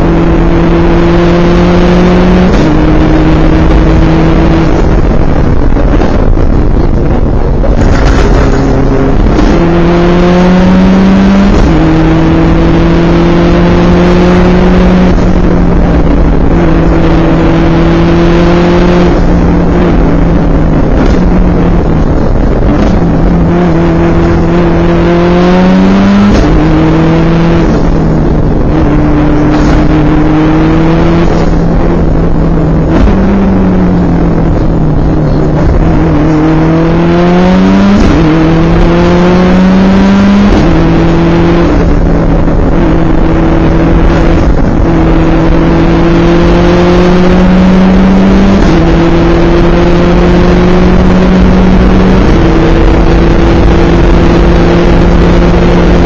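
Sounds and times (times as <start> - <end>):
car engine accelerating through gears: 0.0 - 56.0
road and wind noise: 0.0 - 56.0.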